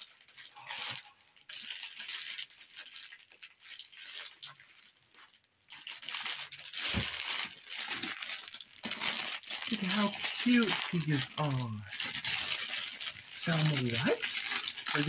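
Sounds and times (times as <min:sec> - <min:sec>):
plastic bags rustling: 0:00.0 - 0:15.0.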